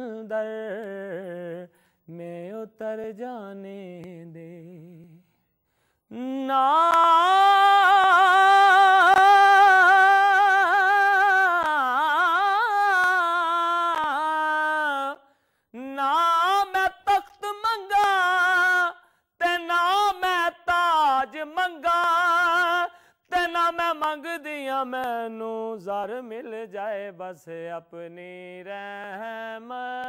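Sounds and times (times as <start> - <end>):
man singing unaccompanied: 0.0 - 5.3, 6.1 - 30.0.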